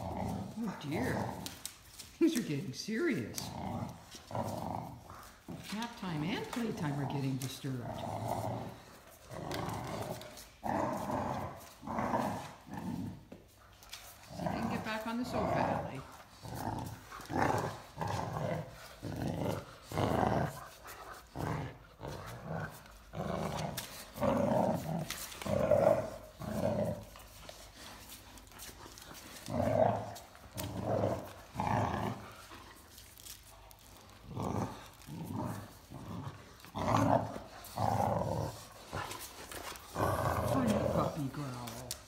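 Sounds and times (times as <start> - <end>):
dogs growling playfully: 0.0 - 42.0.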